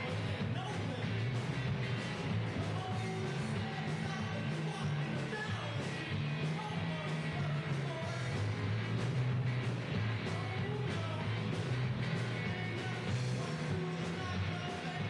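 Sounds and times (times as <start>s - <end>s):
heavy bass line: 0.0s - 15.0s
live rock band playing: 0.0s - 15.0s.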